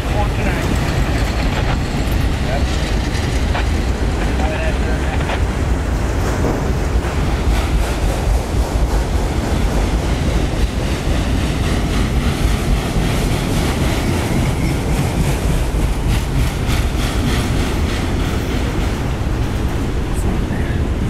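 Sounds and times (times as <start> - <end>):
steel wheels rumbling on rails: 0.0 - 21.0
wind buffeting microphone: 0.0 - 21.0.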